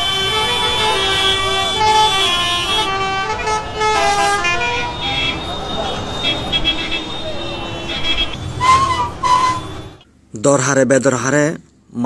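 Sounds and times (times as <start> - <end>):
vehicle horns honking: 0.0 - 10.0.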